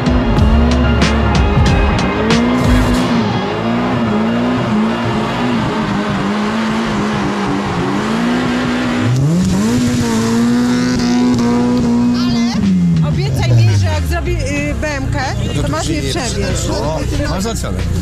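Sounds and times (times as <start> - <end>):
car engine revving high: 0.0 - 15.8.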